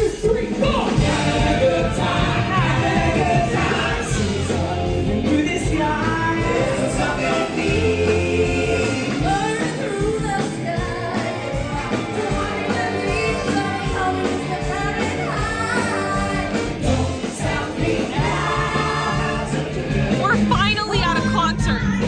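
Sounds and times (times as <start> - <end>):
song with lead vocals: 0.0 - 22.0.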